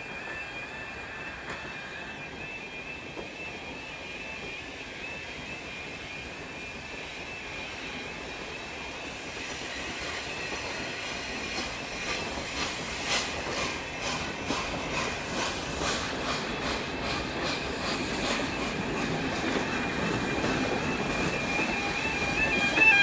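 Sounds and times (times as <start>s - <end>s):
train coaches running on rails: 0.0s - 23.0s.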